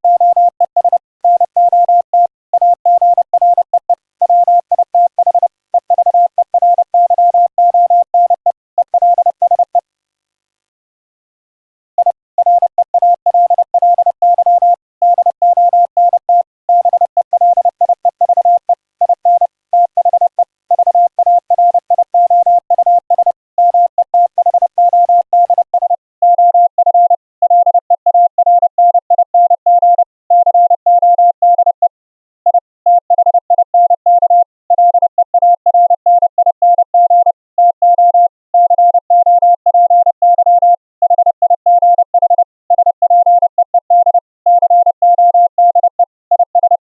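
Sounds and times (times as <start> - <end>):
morse code tone: 0.0 - 9.8, 12.0 - 31.8, 35.8 - 46.8.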